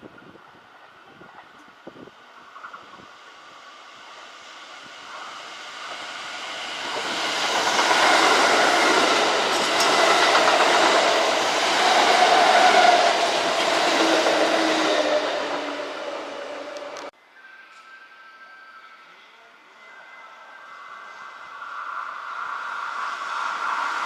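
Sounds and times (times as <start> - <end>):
electric train running past: 0.4 - 24.0.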